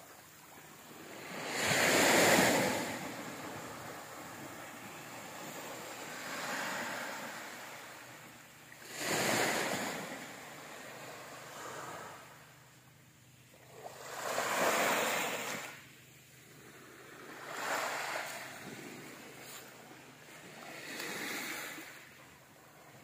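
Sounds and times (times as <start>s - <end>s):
small waves washing onto sand: 0.0s - 12.6s, 13.5s - 23.0s.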